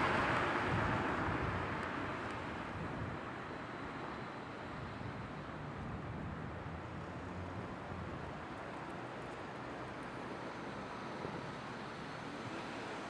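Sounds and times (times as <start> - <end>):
bicycle road and wind noise: 0.0 - 13.0.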